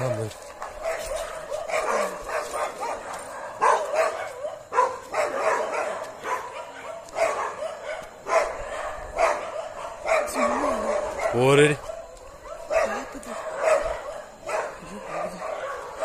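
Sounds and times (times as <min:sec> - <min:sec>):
dog barking: 0:00.6 - 0:16.0.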